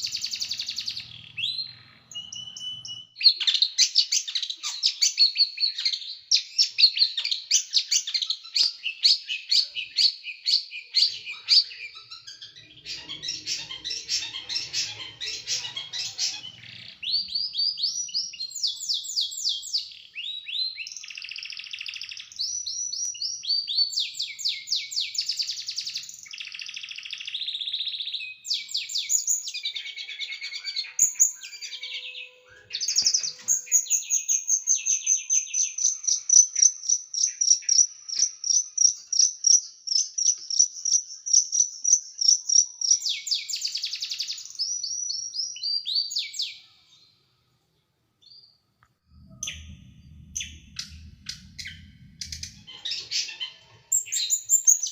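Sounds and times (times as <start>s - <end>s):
small songbird singing: 0.0s - 47.5s, 48.2s - 54.9s.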